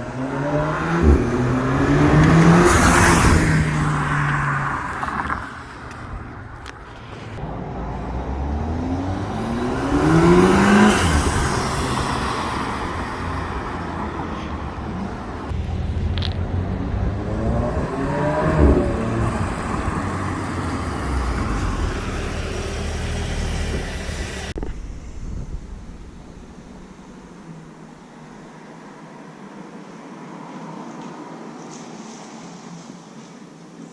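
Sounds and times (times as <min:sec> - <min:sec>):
car engine accelerating: 0:00.0 - 0:28.5.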